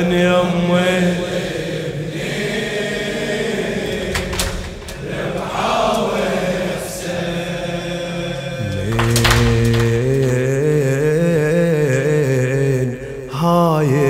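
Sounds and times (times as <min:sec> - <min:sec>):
men chanting in unison: 0:00.0 - 0:04.3, 0:04.9 - 0:14.0.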